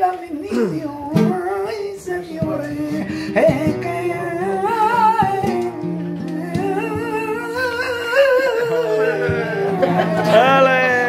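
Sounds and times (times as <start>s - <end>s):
guitar music: 0.0s - 11.0s
man singing flamenco melisma: 0.0s - 11.0s.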